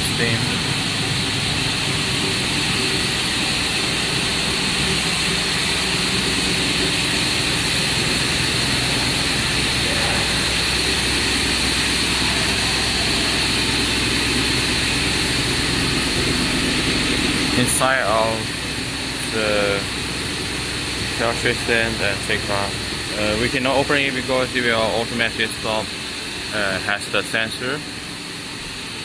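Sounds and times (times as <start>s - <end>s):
cable twisting machine running: 0.0s - 29.0s
spinning pulleys humming: 0.0s - 29.0s.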